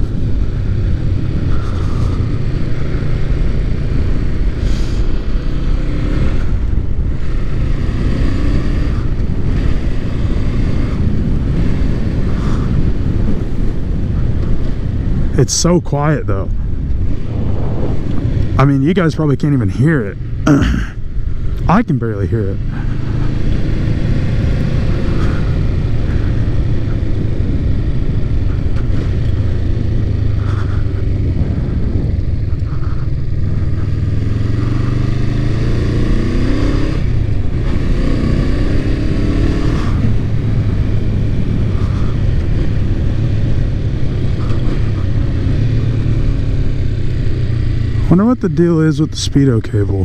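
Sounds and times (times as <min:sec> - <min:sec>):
motorcycle engine: 0:00.0 - 0:15.4, 0:16.0 - 0:50.0
wind noise on microphone: 0:00.0 - 0:21.8, 0:22.5 - 0:48.2.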